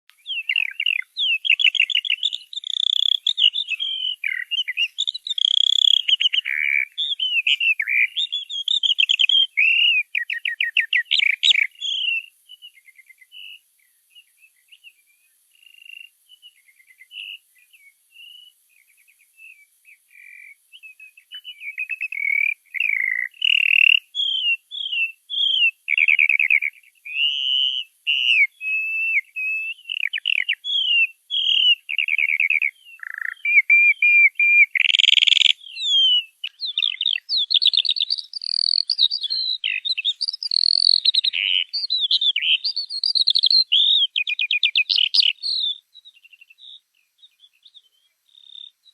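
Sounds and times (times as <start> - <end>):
small bird chirping: 0.1 - 48.9.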